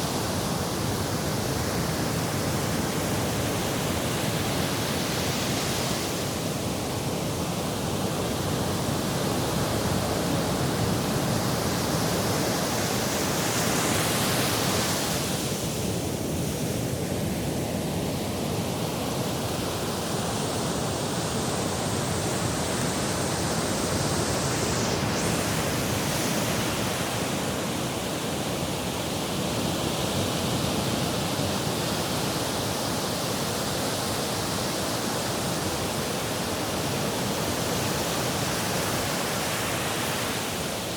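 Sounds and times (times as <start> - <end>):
sea surf: 0.0 - 40.9.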